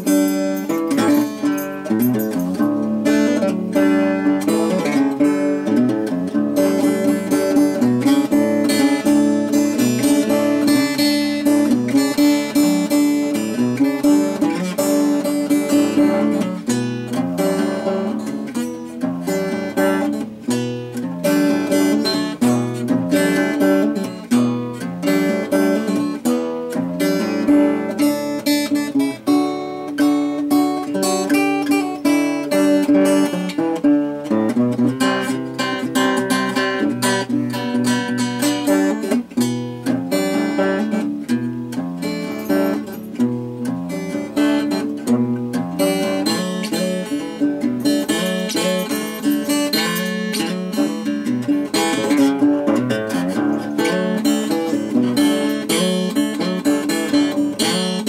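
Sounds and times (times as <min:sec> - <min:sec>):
acoustic guitar picking: 0:00.0 - 0:58.0.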